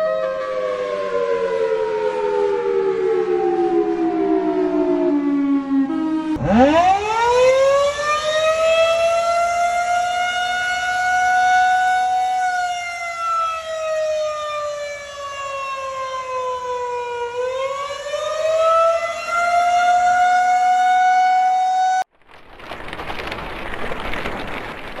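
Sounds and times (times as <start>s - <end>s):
tornado warning siren wailing: 0.0s - 22.1s.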